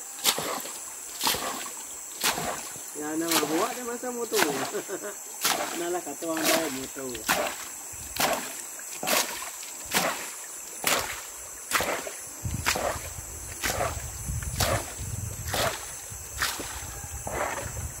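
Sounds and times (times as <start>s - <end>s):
water splashing from scoop: 0.2s - 17.8s.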